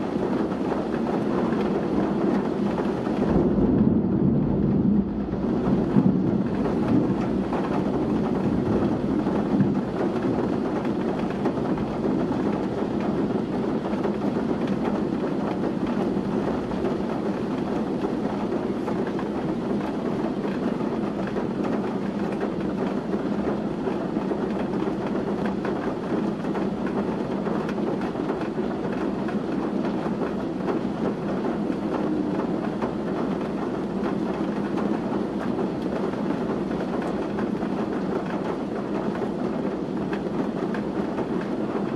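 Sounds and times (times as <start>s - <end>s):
gusting wind in trees: 0.0s - 41.9s
heavy rain pouring: 0.0s - 41.9s.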